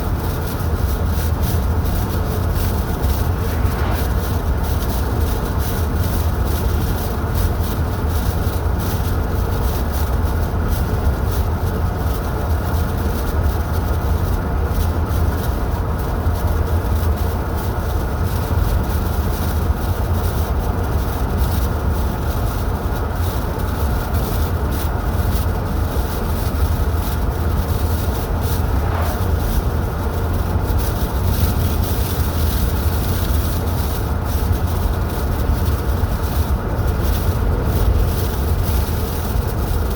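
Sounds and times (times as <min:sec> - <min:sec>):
car engine and tyre rumble: 0:00.0 - 0:39.9
road hiss: 0:00.0 - 0:39.9.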